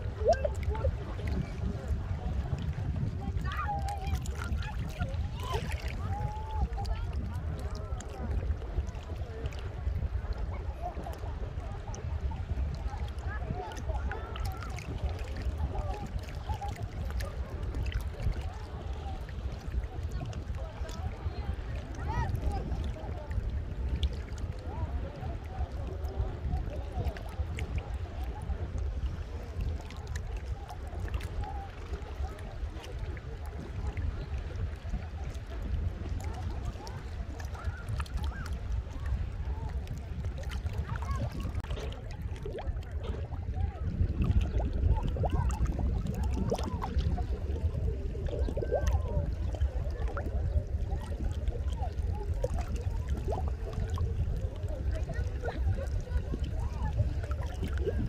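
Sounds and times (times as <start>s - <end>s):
sea water sloshing and splashing: 0.0s - 58.0s
wind rumble on microphone: 0.0s - 58.0s.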